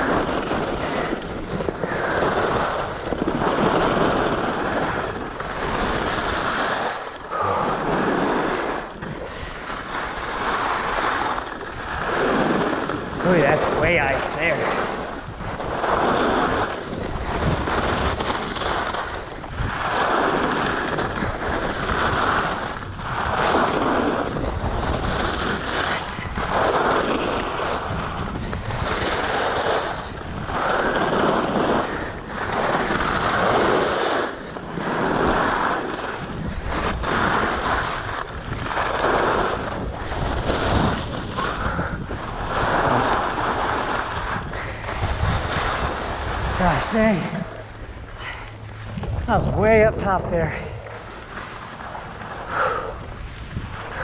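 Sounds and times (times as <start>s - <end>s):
skis scraping on hard snow: 0.0s - 47.6s, 48.9s - 52.7s
wind on microphone: 0.0s - 54.0s.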